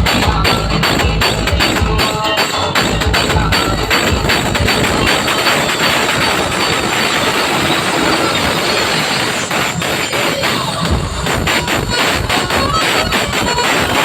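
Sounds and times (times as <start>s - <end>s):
distorted sound system roar: 0.0s - 14.0s
heavy bass: 0.0s - 14.0s.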